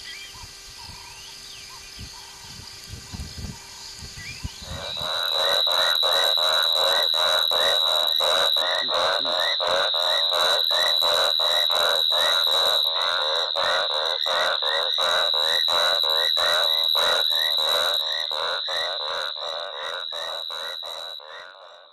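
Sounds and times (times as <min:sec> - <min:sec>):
high insect trill: 0:00.0 - 0:21.2
frogs calling: 0:00.0 - 0:21.9.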